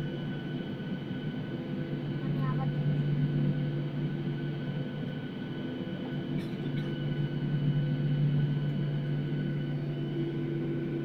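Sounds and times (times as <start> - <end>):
jet engines humming in cabin: 0.0 - 11.0.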